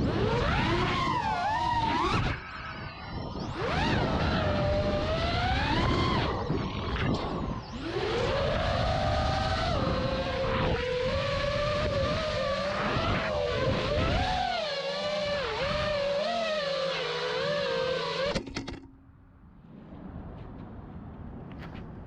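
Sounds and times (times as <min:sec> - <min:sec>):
drone motors and propellers whining: 0:00.0 - 0:22.0.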